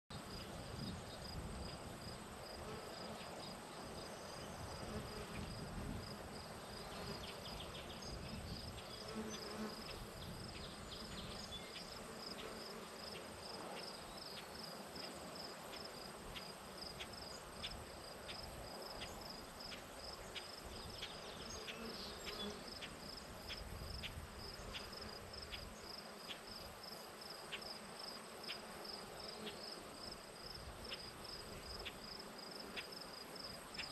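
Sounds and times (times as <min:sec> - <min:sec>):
insect chirping: 0:00.2 - 0:33.9.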